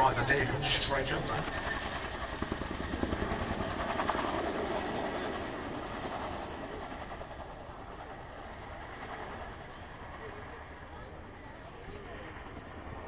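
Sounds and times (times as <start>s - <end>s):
helicopter flying past: 0.0s - 13.0s.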